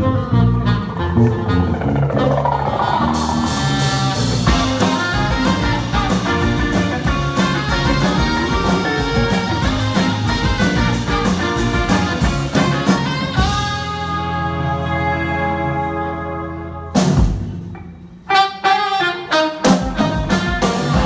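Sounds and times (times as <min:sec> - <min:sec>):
drums: 0:00.0 - 0:21.0
live band playing: 0:00.0 - 0:21.0.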